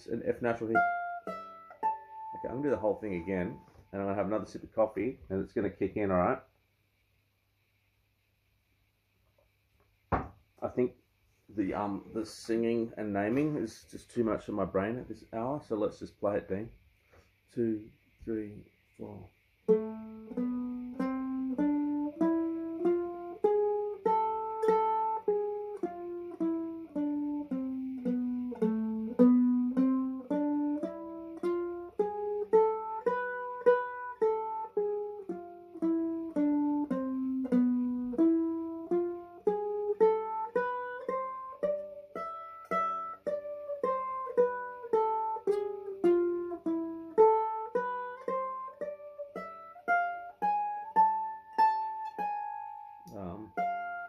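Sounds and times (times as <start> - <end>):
mandolin melody: 0.0 - 5.0, 11.6 - 15.9, 19.6 - 54.0.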